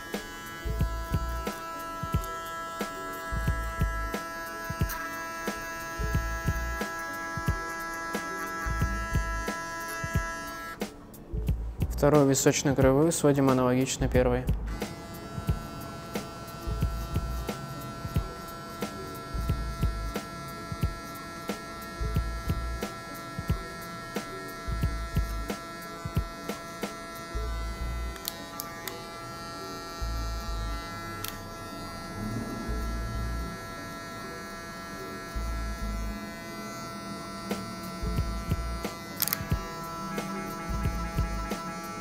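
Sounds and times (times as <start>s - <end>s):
hair clipper buzzing: 0.0s - 11.0s, 14.7s - 42.0s.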